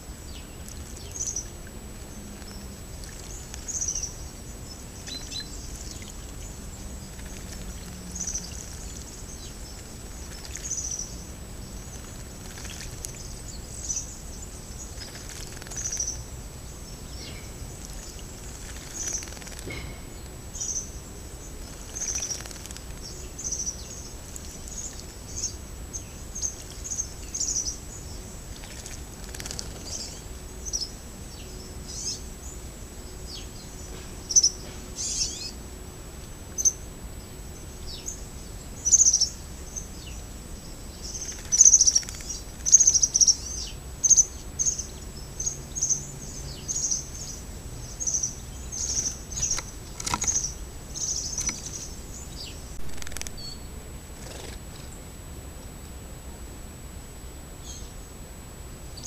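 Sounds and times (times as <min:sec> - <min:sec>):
small birds chirping: 0:00.0 - 0:35.6, 0:36.2 - 0:55.0, 0:57.6 - 0:58.2.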